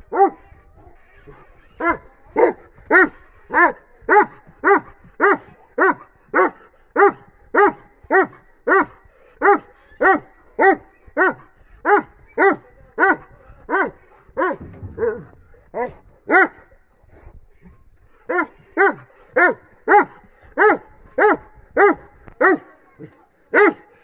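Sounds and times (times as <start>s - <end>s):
dog barking: 0.1s - 16.7s, 18.3s - 24.0s.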